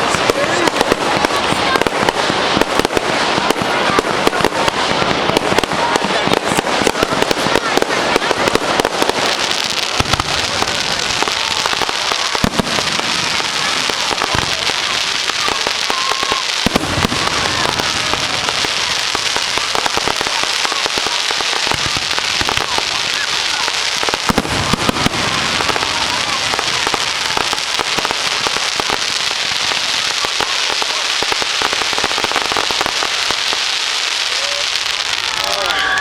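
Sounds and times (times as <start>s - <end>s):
deep firework booms: 0.0s - 36.0s
fireworks crackling: 0.0s - 36.0s.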